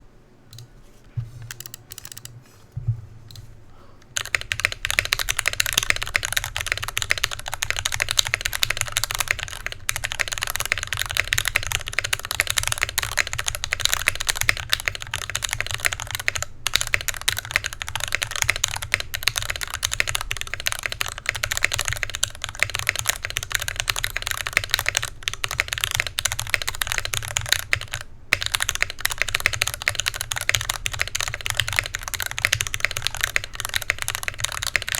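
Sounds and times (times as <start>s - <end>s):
typing on mechanical keyboard: 1.4s - 2.3s, 4.1s - 34.9s.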